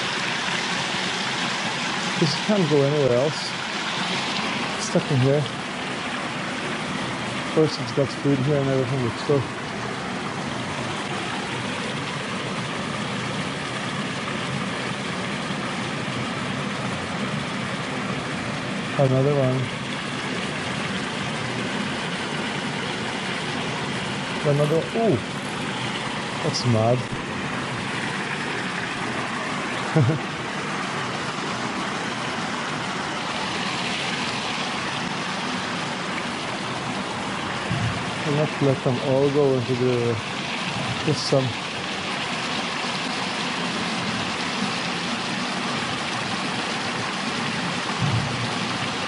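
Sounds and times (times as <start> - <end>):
water rushing at spillway: 0.0 - 49.0.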